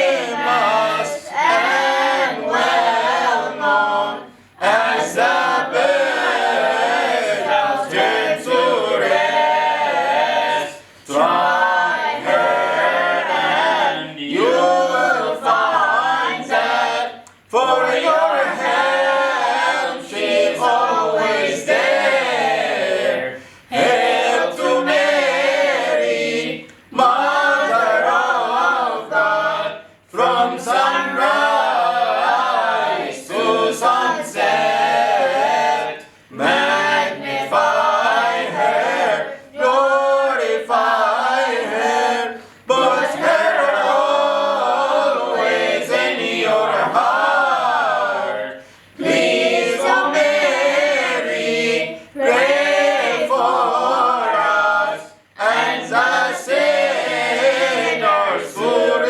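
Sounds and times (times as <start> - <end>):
mixed choir singing a cappella: 0.0 - 59.0.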